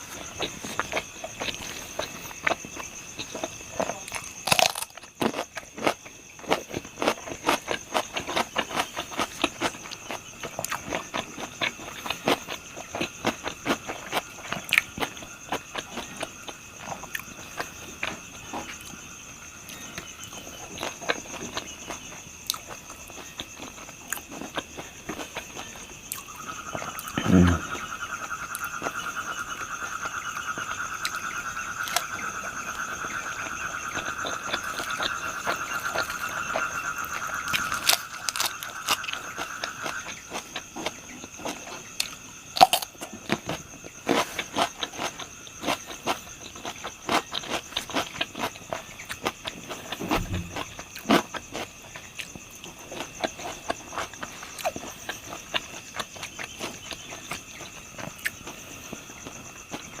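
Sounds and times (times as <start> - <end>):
crunchy chewing: 0.0 - 60.0
insects chirping: 0.0 - 60.0
low insect chorus: 0.0 - 60.0.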